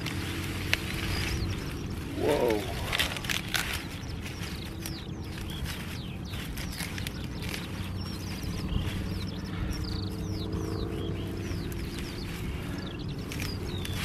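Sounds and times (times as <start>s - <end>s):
leafy stems rustling: 0.0s - 14.0s
small birds chirping: 0.0s - 14.0s.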